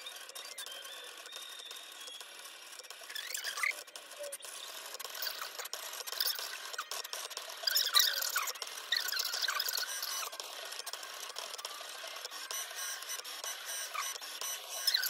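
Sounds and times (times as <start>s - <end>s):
cutting machine motors whirring: 0.0s - 15.0s.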